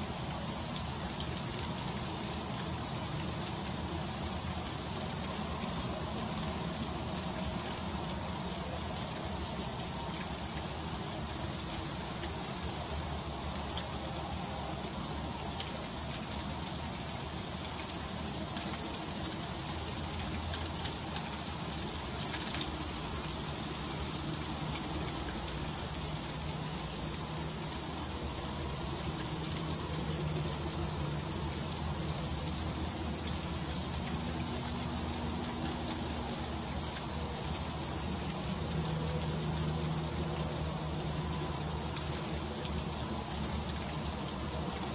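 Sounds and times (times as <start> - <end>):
freezing rain hissing: 0.0 - 44.9.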